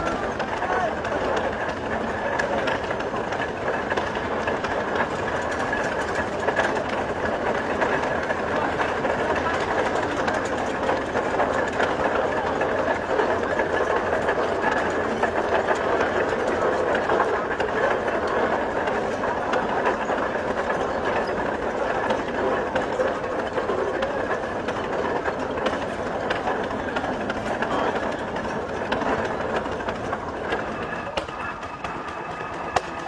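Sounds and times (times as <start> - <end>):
tractor mechanical clatter: 0.0 - 33.0.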